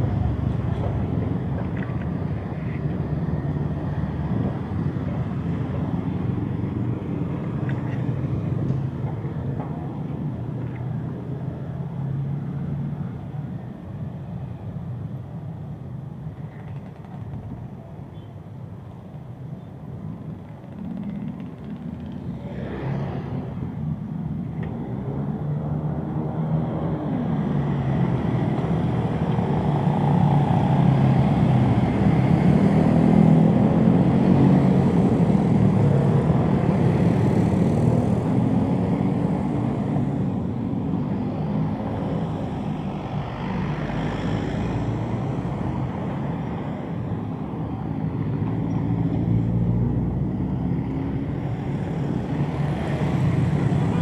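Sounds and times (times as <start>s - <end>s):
motorcycles and cars passing: 0.0s - 54.0s.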